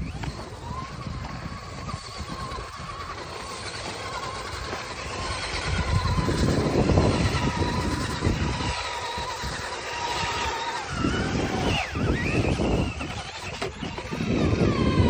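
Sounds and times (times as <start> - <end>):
low rumbling noise: 0.0 - 15.0
toy car motor whining: 0.0 - 15.0.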